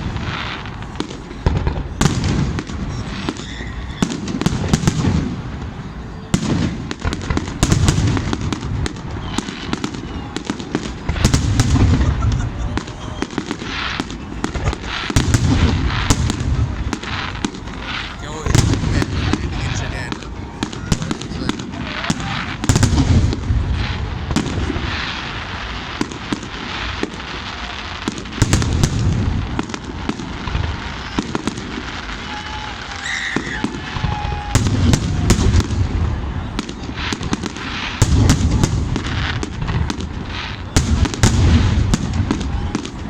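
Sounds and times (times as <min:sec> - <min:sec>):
fireworks bangs and crackles: 0:00.0 - 0:43.0
heavy firework booms: 0:00.0 - 0:43.0.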